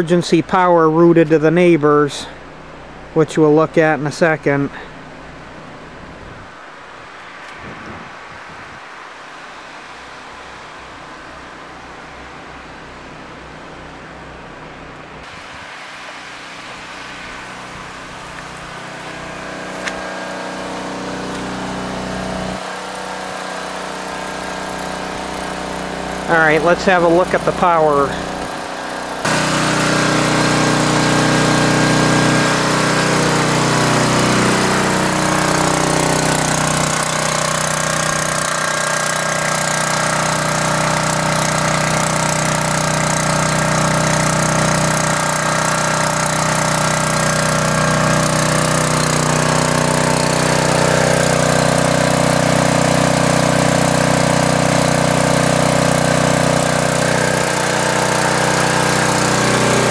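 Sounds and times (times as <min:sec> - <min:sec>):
generator engine running: 0:00.0 - 0:08.4, 0:09.0 - 0:59.9.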